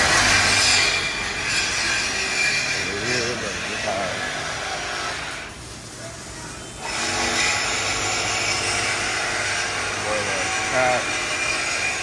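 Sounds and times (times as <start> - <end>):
power tool cutting metal pipe: 0.0 - 5.5, 6.8 - 12.0.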